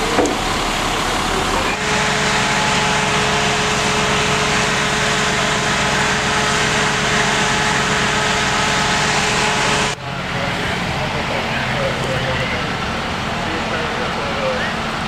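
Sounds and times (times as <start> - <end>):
constant whine: 0.0 - 15.0
fire engine pump droning: 0.0 - 15.0.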